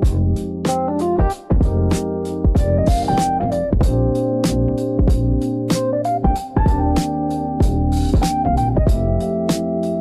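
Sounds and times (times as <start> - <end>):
steady drum beat: 0.0 - 9.6
sustained keyboard chords: 0.0 - 10.0.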